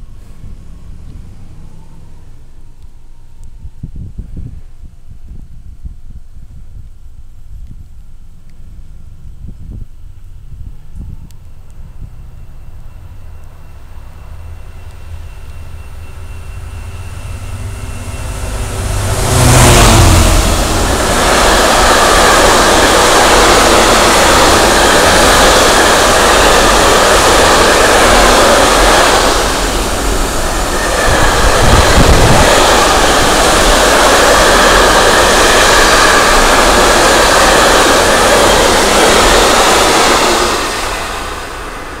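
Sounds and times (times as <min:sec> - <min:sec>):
freight train wheels rumbling on rails: 0:00.0 - 0:42.0.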